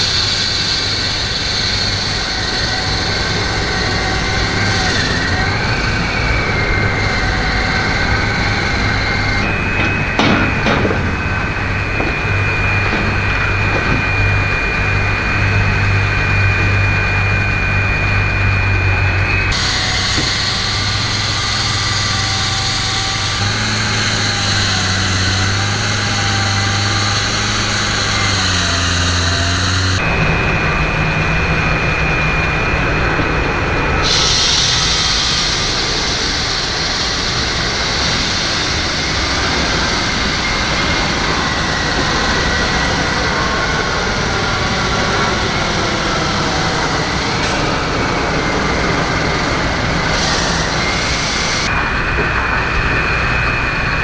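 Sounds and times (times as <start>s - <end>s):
construction machinery engine: 0.0s - 54.0s
road traffic: 0.0s - 54.0s.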